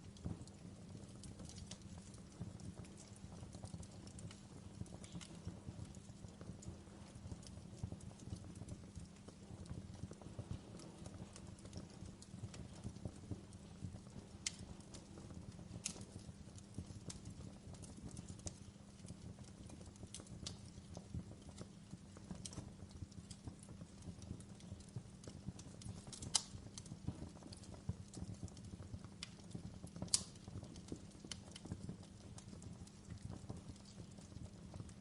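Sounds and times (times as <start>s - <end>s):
fire pops: 0.0s - 35.0s
wood fire crackling: 0.0s - 35.0s.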